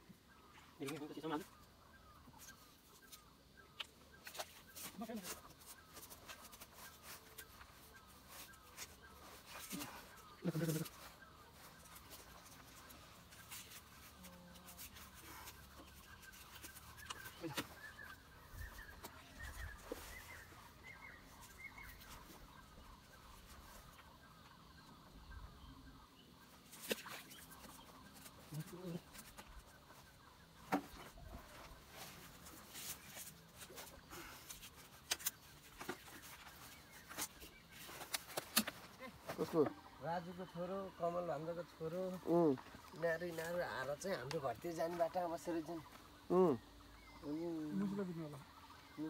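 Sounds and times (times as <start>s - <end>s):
distant bird chirps: 0.0s - 49.0s.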